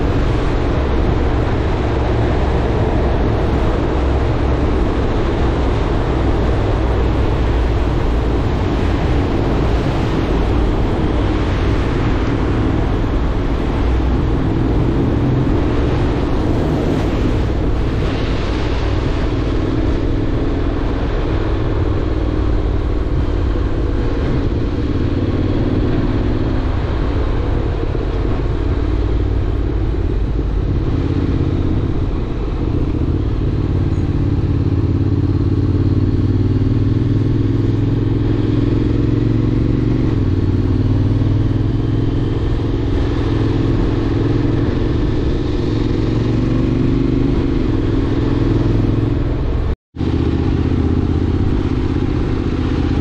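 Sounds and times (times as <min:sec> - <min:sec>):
motorcycle engine running: 0:00.0 - 0:53.0
wind noise: 0:00.0 - 0:53.0.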